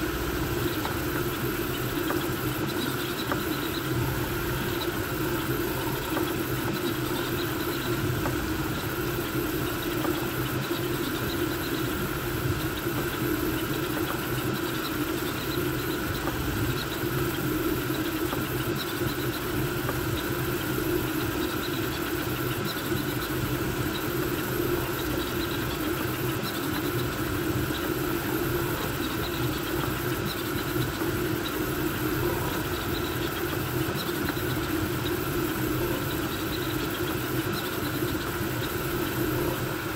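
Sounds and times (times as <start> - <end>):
cooling fans whirring: 0.0 - 39.9
stepper motors humming: 0.0 - 39.9.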